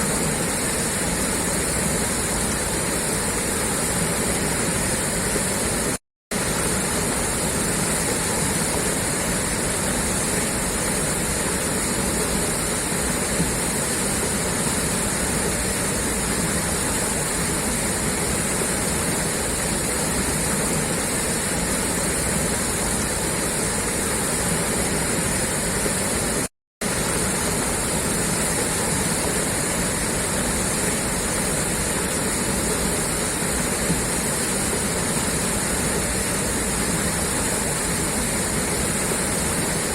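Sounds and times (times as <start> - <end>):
water gushing from pipe: 0.0 - 39.9.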